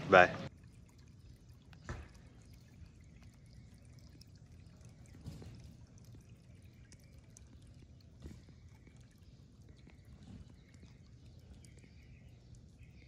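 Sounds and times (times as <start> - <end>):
faint fountain water trickle: 0.1 - 13.0.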